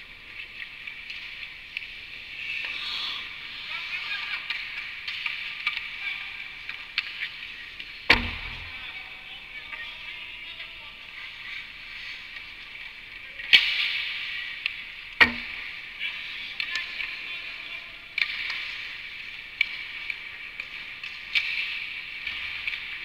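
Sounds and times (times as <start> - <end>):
hockey sticks and puck cracking: 0.0 - 23.0.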